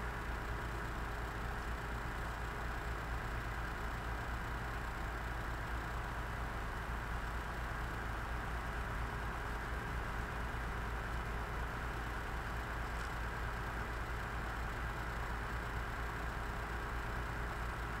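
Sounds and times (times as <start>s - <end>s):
heavy equipment engine idling: 0.0s - 18.0s.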